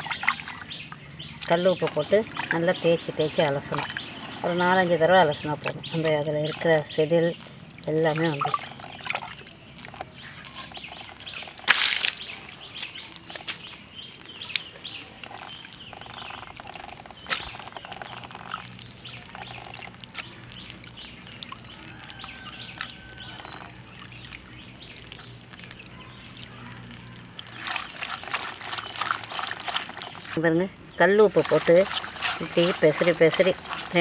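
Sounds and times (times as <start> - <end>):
birds chirping: 0.0 - 34.0
water splashing from pot: 0.0 - 34.0.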